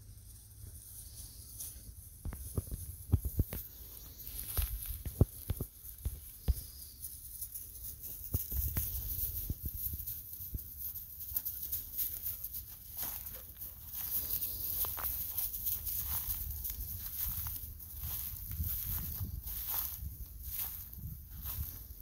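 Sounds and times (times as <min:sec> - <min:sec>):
dogs moving on dry stubble: 0:00.0 - 0:22.0.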